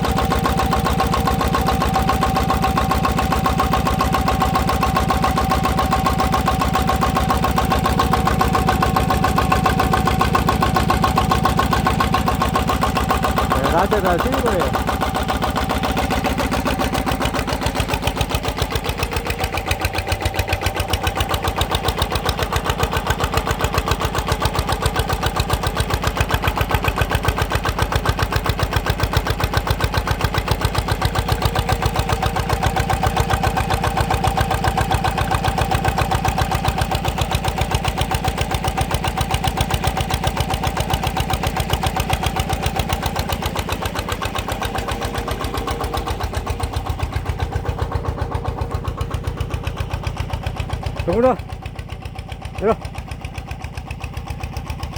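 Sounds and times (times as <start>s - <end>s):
diesel engine chugging: 0.0s - 54.9s.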